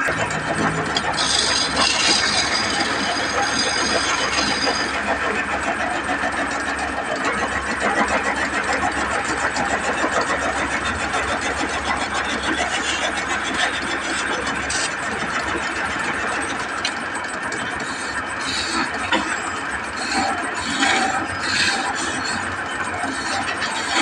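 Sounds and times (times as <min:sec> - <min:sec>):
turning tool cutting wood: 0:00.0 - 0:24.0
wood lathe running: 0:00.0 - 0:24.0.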